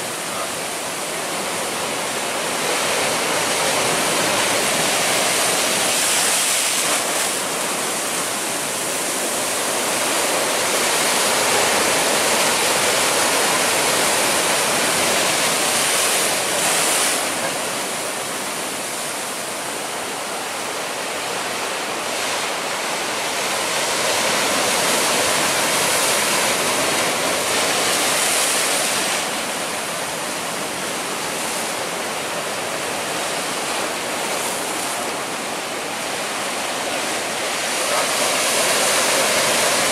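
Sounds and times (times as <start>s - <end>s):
surf breaking on rocks: 0.0s - 19.6s, 23.3s - 39.9s.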